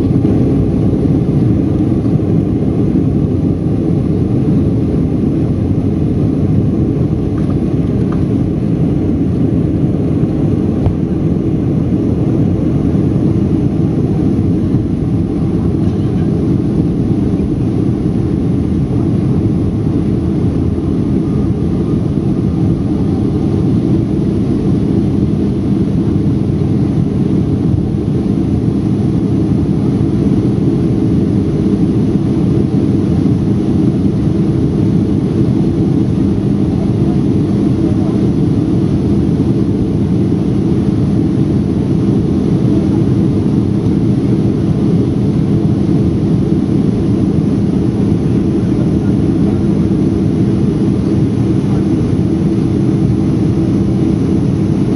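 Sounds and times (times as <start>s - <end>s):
jet engines rumbling in cabin: 0.0s - 54.9s.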